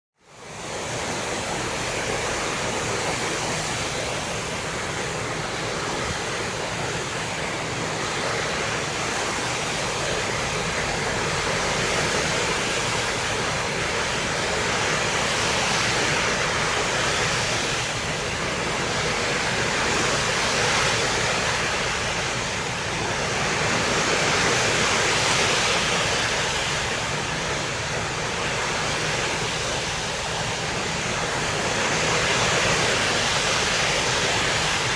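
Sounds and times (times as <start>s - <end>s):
open sea: 0.2s - 34.9s
wind: 0.2s - 34.9s.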